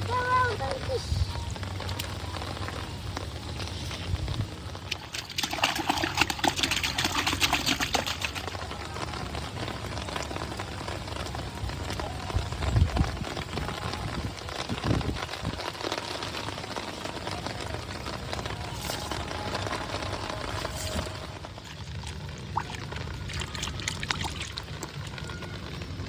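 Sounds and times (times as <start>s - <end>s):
water pouring and splashing: 0.0s - 26.0s.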